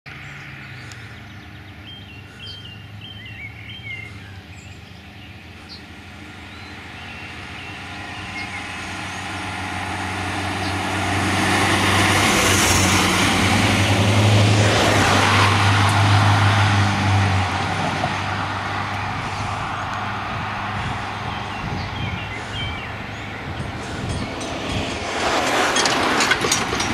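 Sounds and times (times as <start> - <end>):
vehicles driving past: 0.1 - 26.9.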